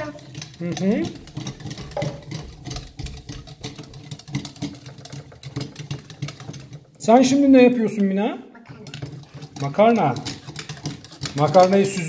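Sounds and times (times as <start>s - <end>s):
toy kitchenware clicking: 0.0s - 12.0s.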